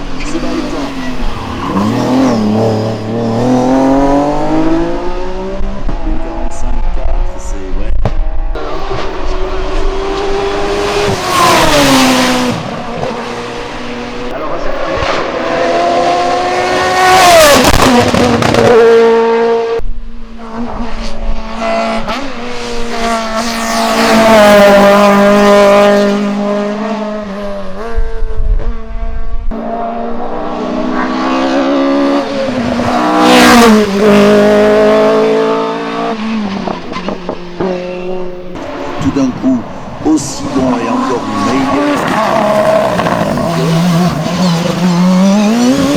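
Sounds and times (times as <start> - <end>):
engines revving and shifting: 0.0 - 45.9
race cars passing at full throttle: 0.0 - 45.9.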